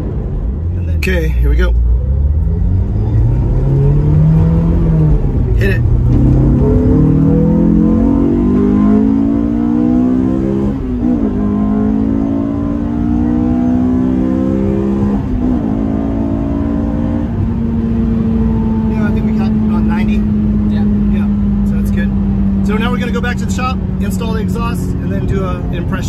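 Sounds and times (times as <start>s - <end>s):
car engine accelerating through gears: 1.6s - 26.0s.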